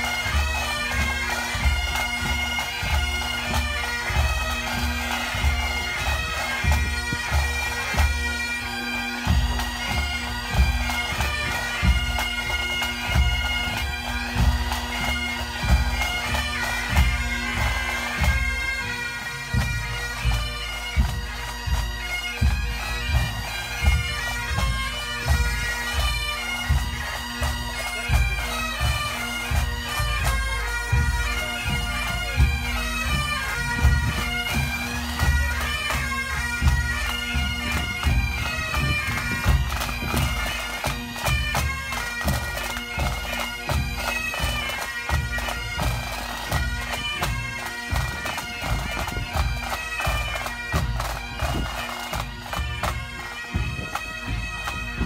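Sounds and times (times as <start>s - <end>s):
bagpipes drone and melody: 0.0s - 55.0s.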